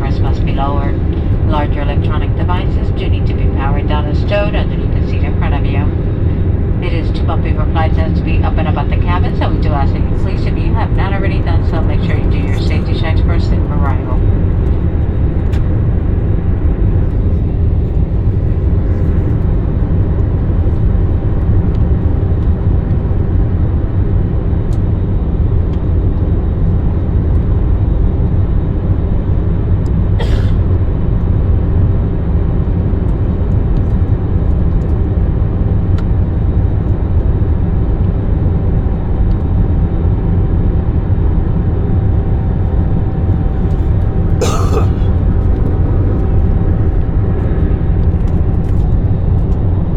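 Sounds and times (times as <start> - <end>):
low engine drone in cabin: 0.0 - 49.9.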